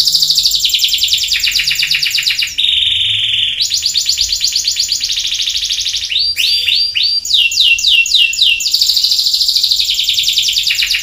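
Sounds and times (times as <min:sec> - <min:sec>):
canary singing trills: 0:00.0 - 0:11.0.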